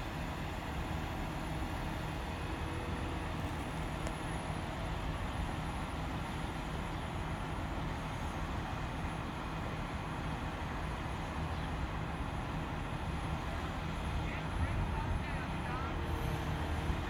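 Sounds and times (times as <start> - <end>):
diesel engine rumble: 0.0 - 17.0.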